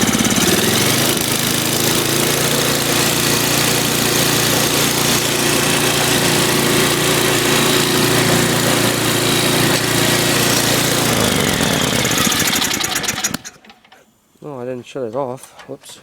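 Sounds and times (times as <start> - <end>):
snowblower engine running: 0.0 - 14.0.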